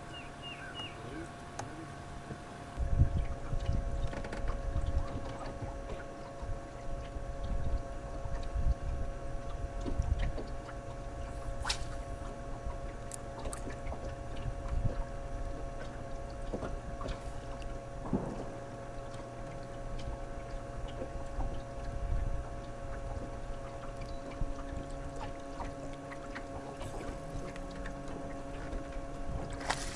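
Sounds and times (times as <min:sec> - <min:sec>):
water lapping against boat hull: 0:00.0 - 0:29.9.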